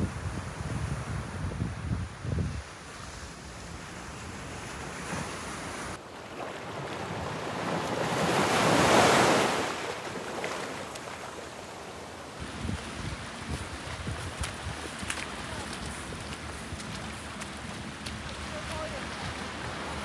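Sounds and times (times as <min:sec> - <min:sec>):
waves on sandy beach: 0:00.0 - 0:20.0.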